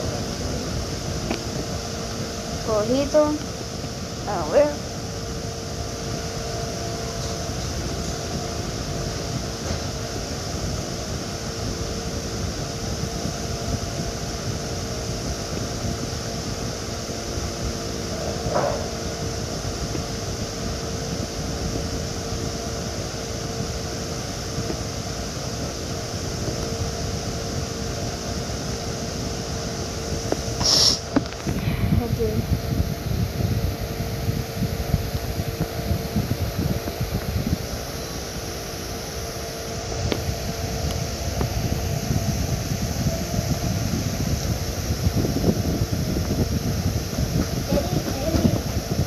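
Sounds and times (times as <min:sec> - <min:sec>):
fan hum and hiss: 0:00.0 - 0:49.0.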